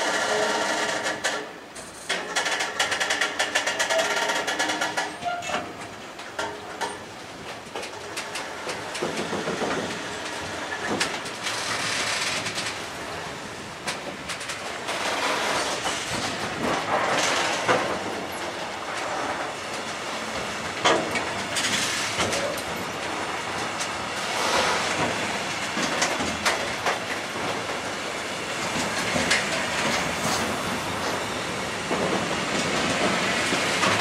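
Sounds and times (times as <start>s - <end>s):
freight train wheels rumbling: 0.0s - 34.0s
wheels knocking on rail joints: 2.1s - 13.1s, 13.8s - 34.0s.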